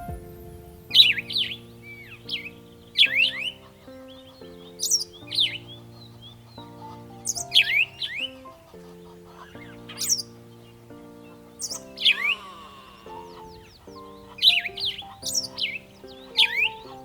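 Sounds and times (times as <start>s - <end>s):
soft background music: 0.0s - 17.0s
birds chirping and squawking: 0.8s - 17.0s.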